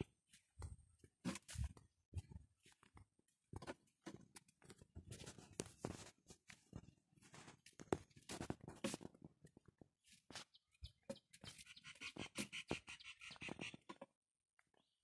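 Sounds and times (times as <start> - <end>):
footsteps in flip-flops on dirt: 0.0 - 13.9.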